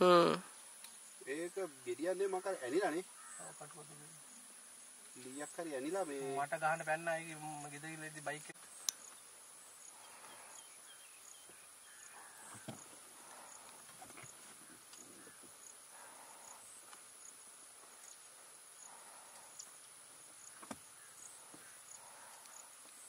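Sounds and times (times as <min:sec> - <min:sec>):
high insect chirp: 0:00.0 - 0:23.0
insects droning: 0:00.0 - 0:23.0.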